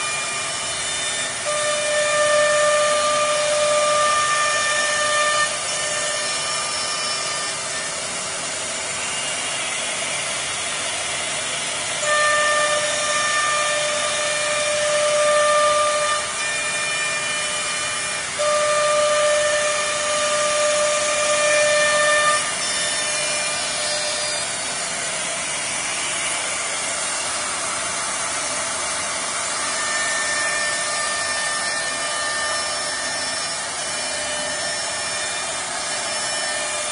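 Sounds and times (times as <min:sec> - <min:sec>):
cnc router running: 0:00.0 - 0:36.9
high spindle whine: 0:00.0 - 0:36.9.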